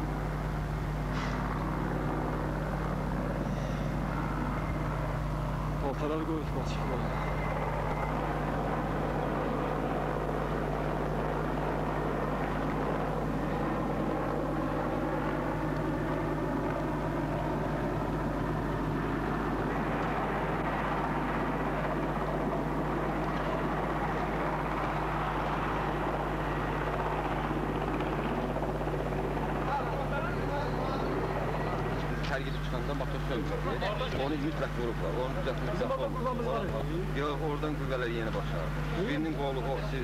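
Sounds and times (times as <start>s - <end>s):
low hum: 0.0s - 33.7s
helicopter engine and rotor: 0.0s - 40.0s.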